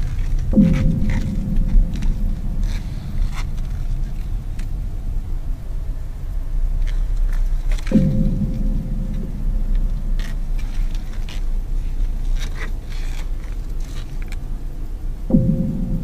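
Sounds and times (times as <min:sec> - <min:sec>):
deep thump with hum: 0:00.0 - 0:12.4, 0:15.2 - 0:16.0
car driving rumble: 0:00.0 - 0:16.0.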